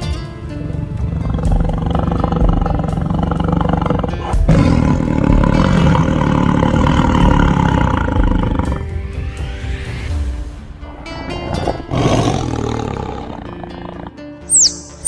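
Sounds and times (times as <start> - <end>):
big cat growling: 0.0 - 9.0, 10.8 - 14.4.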